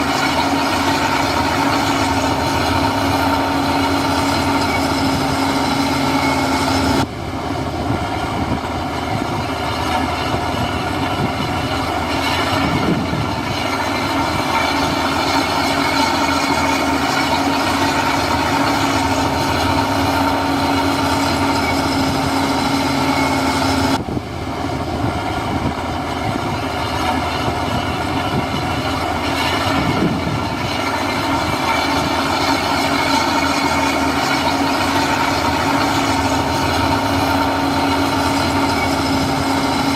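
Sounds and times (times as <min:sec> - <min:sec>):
diesel machinery engine hum and clatter: 0:00.0 - 0:39.9.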